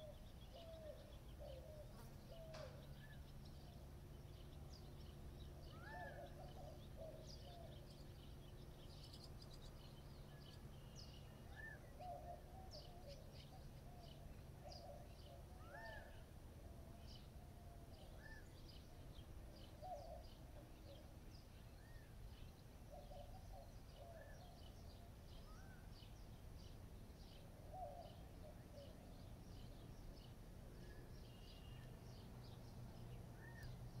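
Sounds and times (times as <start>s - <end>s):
low bird calls: 0.0s - 16.3s, 17.0s - 34.0s
birds chirping: 0.0s - 34.0s.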